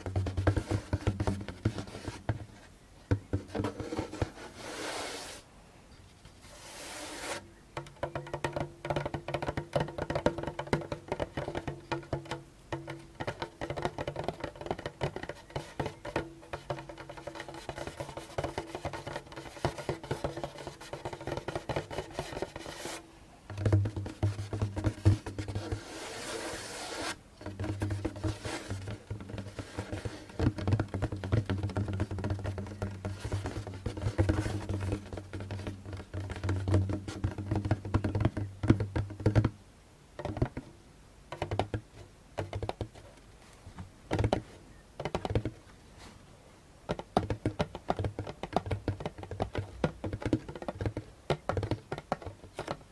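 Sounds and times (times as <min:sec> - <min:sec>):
fingers drumming on hand drum: 0:00.0 - 0:04.4, 0:07.7 - 0:39.6, 0:40.2 - 0:40.7, 0:41.3 - 0:43.2, 0:44.1 - 0:45.7, 0:46.9 - 0:52.9.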